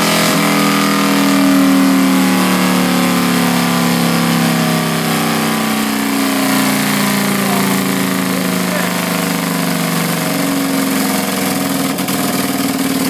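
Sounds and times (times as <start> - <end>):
motorcycle engine winding down: 0.0 - 13.0.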